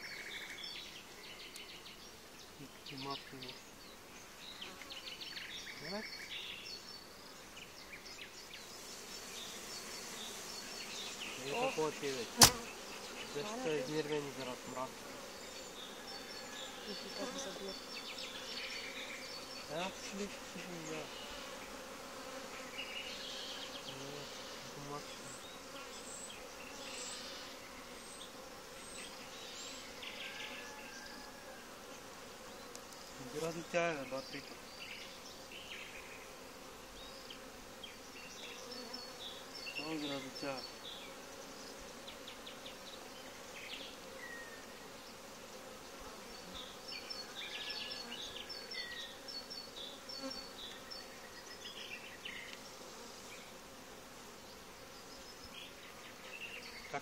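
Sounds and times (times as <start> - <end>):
bee colony humming: 0.0 - 57.0
single bees buzzing past: 0.0 - 57.0.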